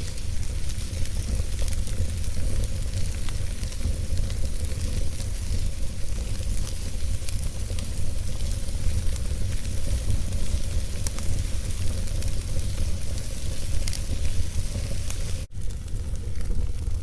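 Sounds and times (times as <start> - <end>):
fire popping: 0.0 - 17.0
low rumble: 0.0 - 17.0
wood fire crackling: 0.0 - 17.0.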